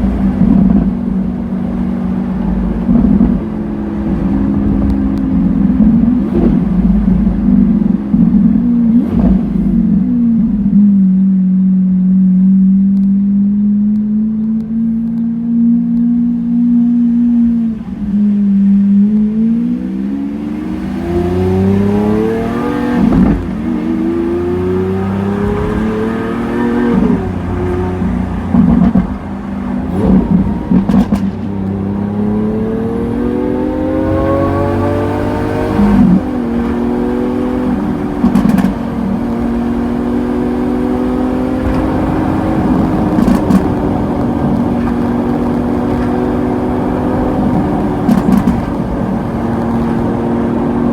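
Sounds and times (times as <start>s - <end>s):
exhaust crackles and pops: 0.0s - 13.3s, 20.7s - 50.9s
sports car accelerating: 0.0s - 50.9s.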